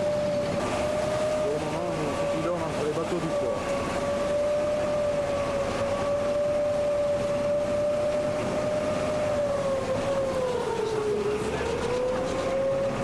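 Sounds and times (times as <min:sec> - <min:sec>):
boat motor whining: 0:00.0 - 0:13.0.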